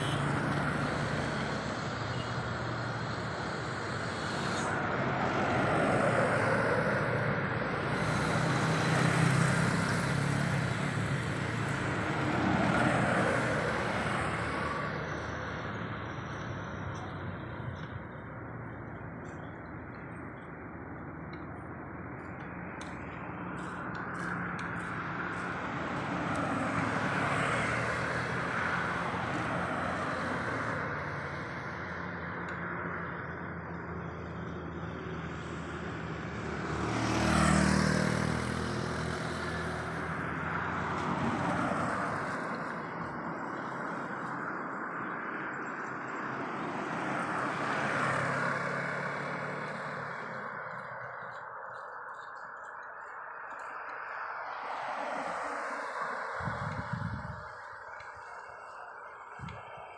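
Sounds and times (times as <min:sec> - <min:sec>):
cars passing: 0:00.0 - 0:59.9
motorbikes passing: 0:00.0 - 0:59.9.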